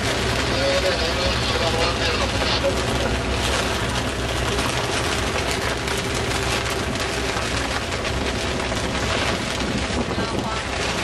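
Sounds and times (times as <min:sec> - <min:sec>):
heavy rain on cabin roof: 0:00.0 - 0:11.0.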